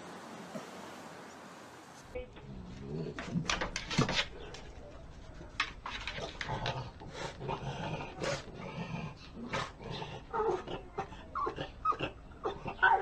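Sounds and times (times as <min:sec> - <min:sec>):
dog growling: 0:02.4 - 0:13.0.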